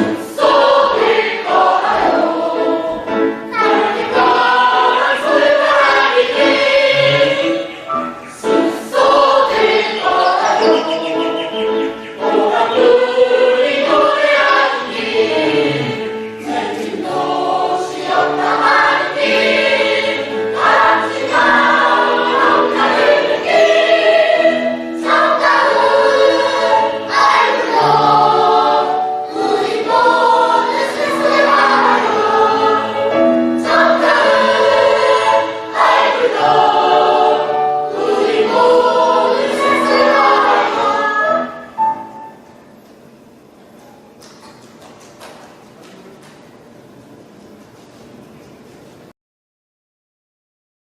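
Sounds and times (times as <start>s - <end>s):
choir singing: 0.0s - 42.5s
low accompanying notes: 0.0s - 44.2s.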